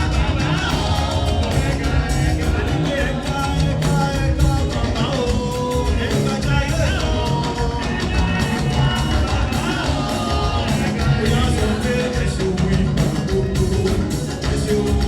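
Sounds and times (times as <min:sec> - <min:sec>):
live gospel music with bass: 0:00.0 - 0:15.0
people singing: 0:00.0 - 0:15.0.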